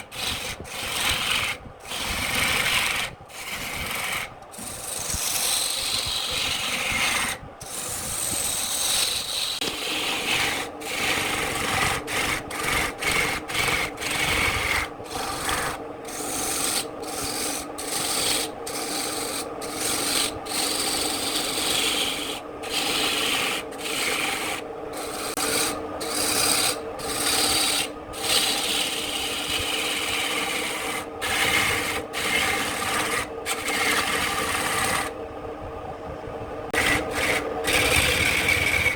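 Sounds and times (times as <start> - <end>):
lathe humming: 0.0 - 35.2, 36.7 - 38.9
tool scraping spinning wood: 0.0 - 35.2, 36.7 - 38.9.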